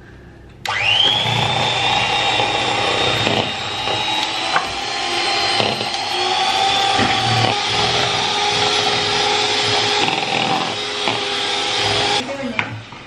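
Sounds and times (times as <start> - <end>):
electric hand mixer whining: 0.6 - 12.5.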